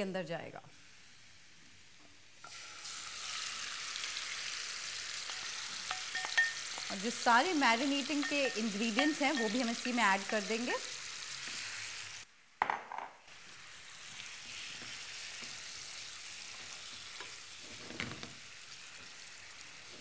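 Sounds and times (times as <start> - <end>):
chicken sizzling in a frying pan: 0.7 - 12.3, 13.2 - 20.0.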